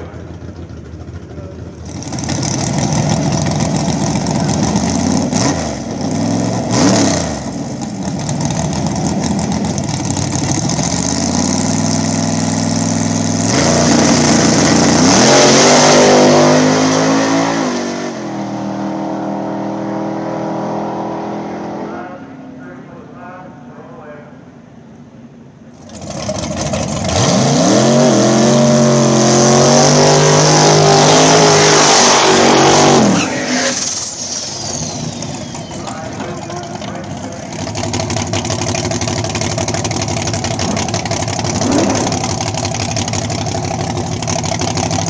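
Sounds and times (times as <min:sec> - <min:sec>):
truck engine revving and accelerating: 0:01.7 - 0:22.3, 0:25.8 - 0:45.0.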